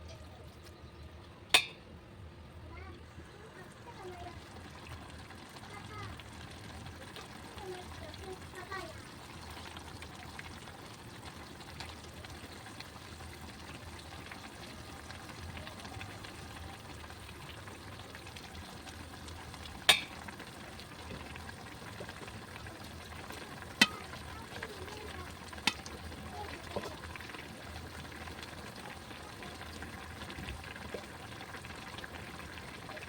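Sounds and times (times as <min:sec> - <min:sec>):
food sizzling in a pan: 0:03.3 - 0:33.0.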